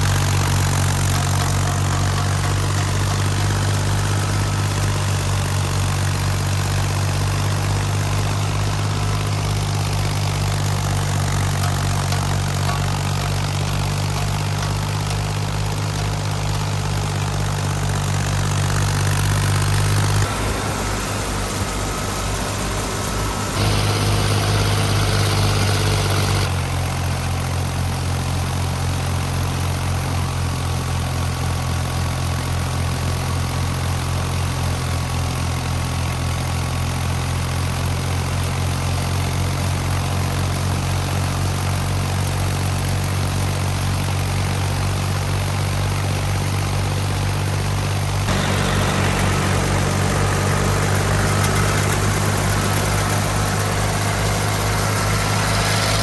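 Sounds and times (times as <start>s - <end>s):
tractor diesel engine throbbing: 0.0s - 56.0s.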